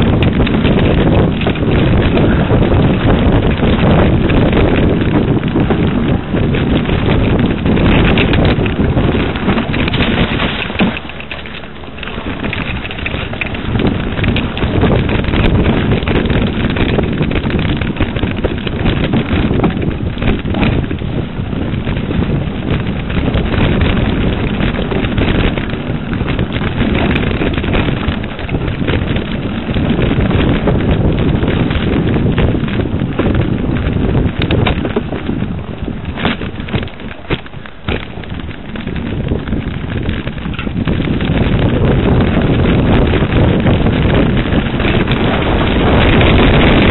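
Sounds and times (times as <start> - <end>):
bike knocks and rattles: 0.0 - 46.9
wind buffeting microphone: 0.0 - 46.9.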